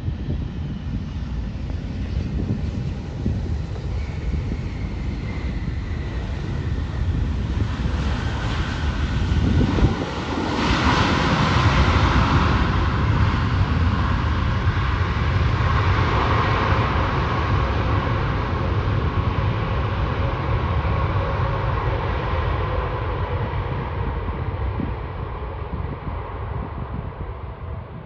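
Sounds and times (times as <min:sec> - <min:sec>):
jet airliner engine noise: 0:00.0 - 0:28.0
wind buffeting microphone: 0:00.0 - 0:28.0.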